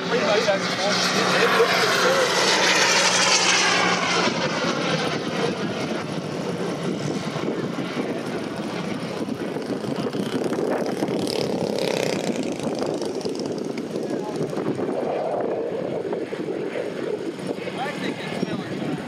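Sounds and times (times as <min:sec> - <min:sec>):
model plane engine drone: 0:00.0 - 0:19.0.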